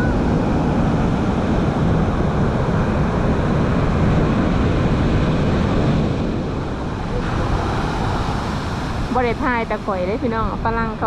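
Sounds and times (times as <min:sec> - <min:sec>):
rough sea surf: 0:00.0 - 0:11.0
wind buffeting microphone: 0:00.0 - 0:11.0.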